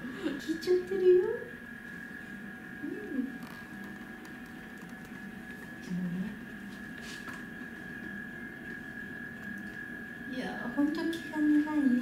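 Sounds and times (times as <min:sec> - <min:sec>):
steady high-pitched hum: 0:00.0 - 0:12.0.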